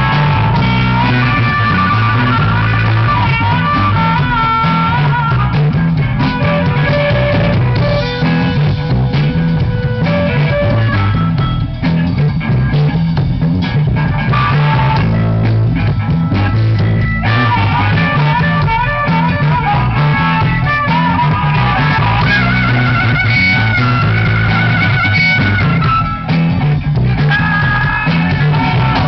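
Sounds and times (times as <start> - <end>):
amplified harmonica lead: 0.0 - 29.0
drums: 0.0 - 29.0
electric guitars: 0.0 - 29.0.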